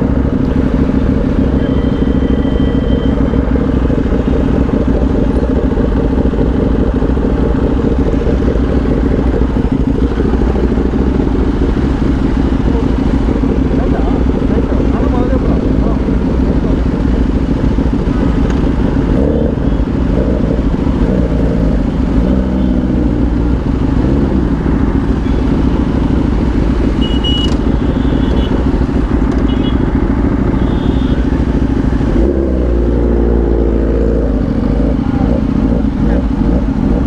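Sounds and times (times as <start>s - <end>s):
motorbike engine: 0.0s - 37.0s.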